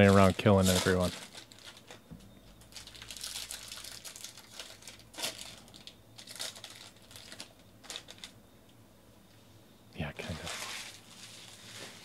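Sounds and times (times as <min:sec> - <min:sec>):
foil wrapper crinkling: 0:00.0 - 0:08.4, 0:10.4 - 0:12.0.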